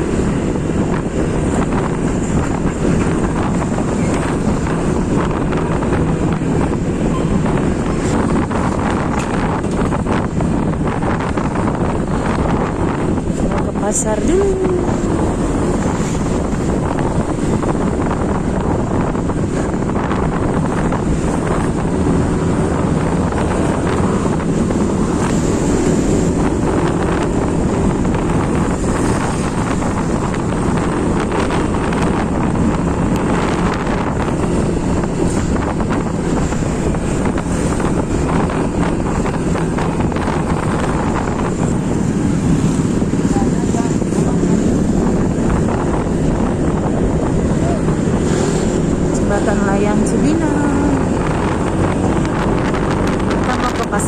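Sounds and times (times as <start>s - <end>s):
vehicle road noise: 0.0s - 54.0s
wind buffeting microphone: 0.0s - 54.0s.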